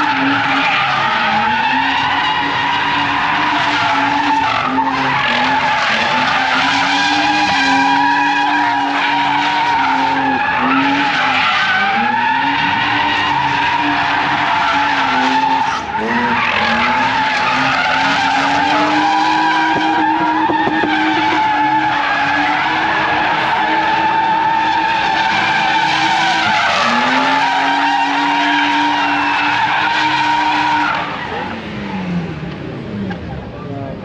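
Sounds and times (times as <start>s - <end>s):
tyres squealing: 0.0s - 31.4s
car engine revving: 0.0s - 34.0s.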